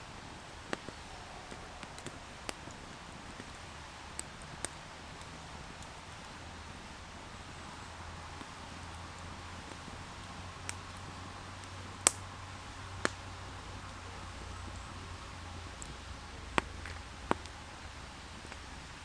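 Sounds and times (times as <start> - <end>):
burning wood popping: 0.0 - 19.0
campfire hissing: 0.0 - 19.0.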